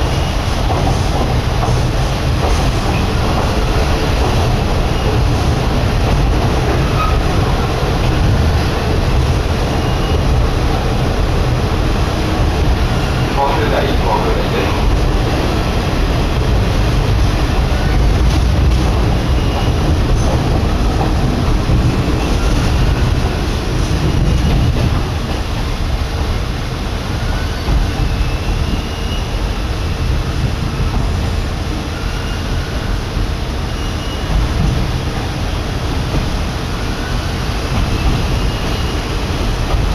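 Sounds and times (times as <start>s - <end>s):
train engine and wheels rumbling: 0.0s - 39.9s.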